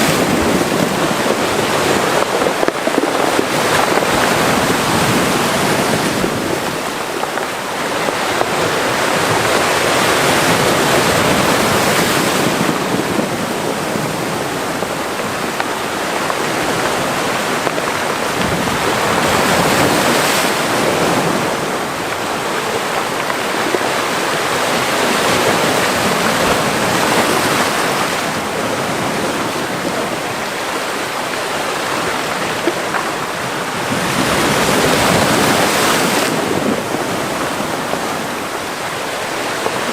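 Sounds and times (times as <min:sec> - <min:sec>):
sea waves washing into cove: 0:00.0 - 0:39.9.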